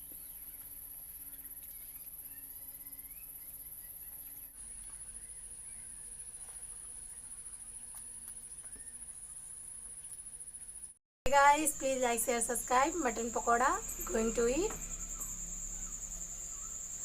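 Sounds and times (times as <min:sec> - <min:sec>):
faint bird chirps: 0:00.0 - 0:10.9, 0:11.8 - 0:17.0
insects trilling: 0:00.0 - 0:17.0.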